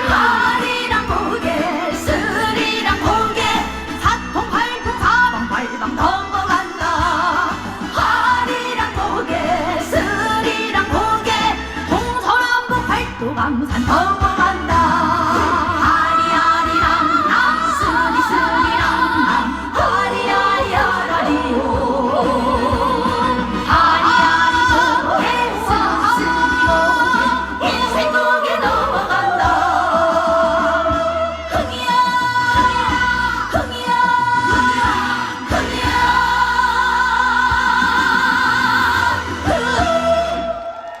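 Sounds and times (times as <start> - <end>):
musical accompaniment: 0.0 - 41.0
woman singing with vibrato: 0.0 - 41.0.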